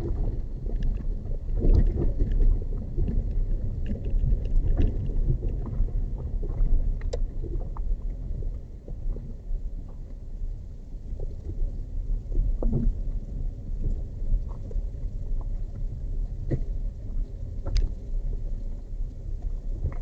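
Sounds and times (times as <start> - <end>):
vehicle rumbling on rough road: 0.0 - 20.0.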